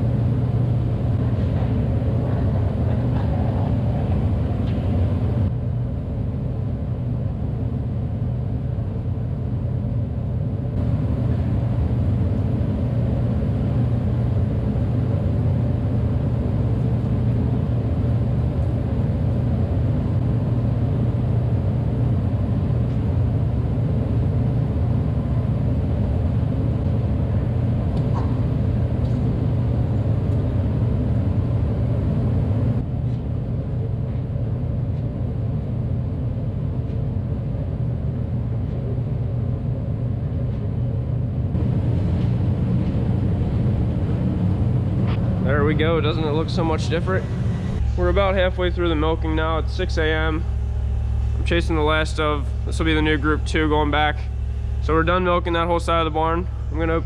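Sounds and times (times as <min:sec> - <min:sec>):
milking machinery humming: 0:00.0 - 0:57.0.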